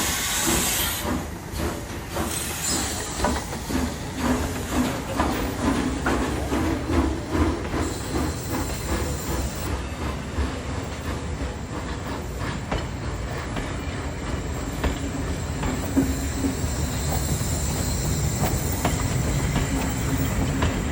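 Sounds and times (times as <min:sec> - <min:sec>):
steam train rumble: 0:00.0 - 0:20.9.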